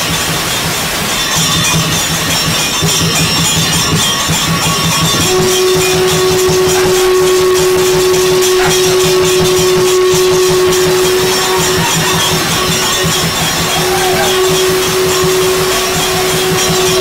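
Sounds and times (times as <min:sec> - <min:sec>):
long held tone: 0:00.0 - 0:17.0
fast regular beat of strikes: 0:00.3 - 0:17.0.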